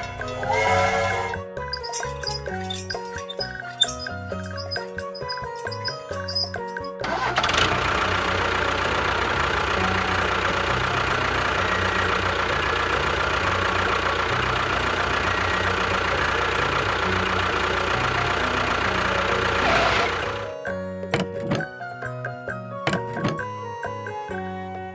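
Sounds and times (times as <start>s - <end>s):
engine running: 0.0s - 24.6s.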